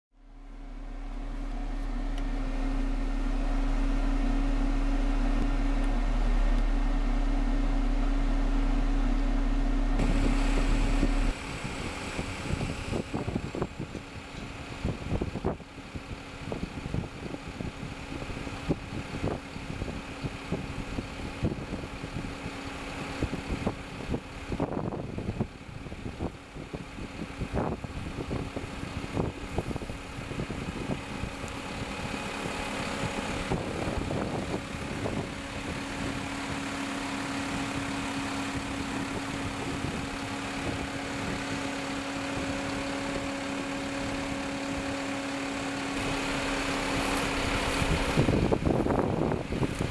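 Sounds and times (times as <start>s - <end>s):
windrower engine drone: 0.2s - 49.9s.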